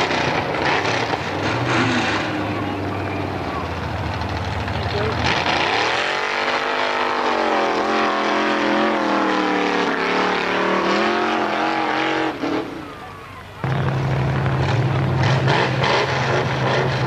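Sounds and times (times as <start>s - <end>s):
buggy engine at high revs: 0.0s - 17.0s.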